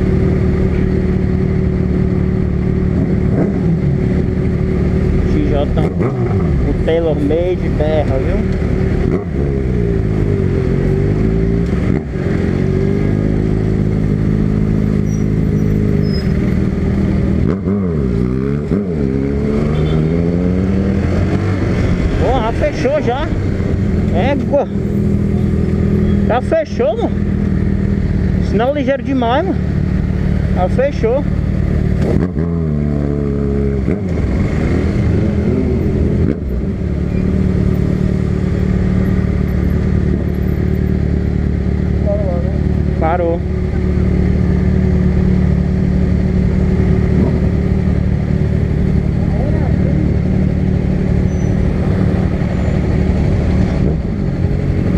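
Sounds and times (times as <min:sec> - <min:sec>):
motorcycle engine running loud: 0:00.0 - 0:54.9.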